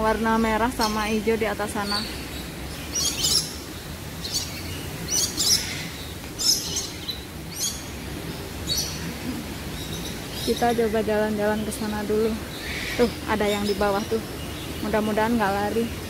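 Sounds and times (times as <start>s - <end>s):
birds chirping: 0.0s - 16.0s
low background noise: 0.0s - 16.0s.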